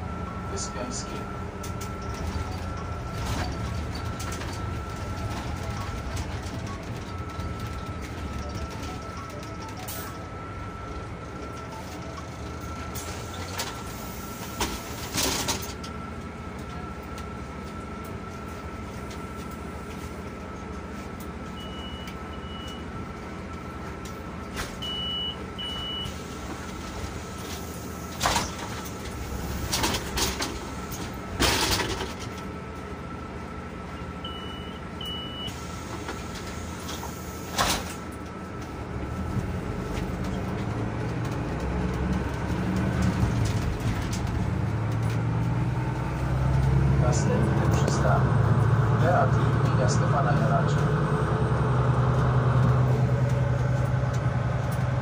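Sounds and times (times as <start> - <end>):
bus engine idling with whine: 0.0 - 55.0.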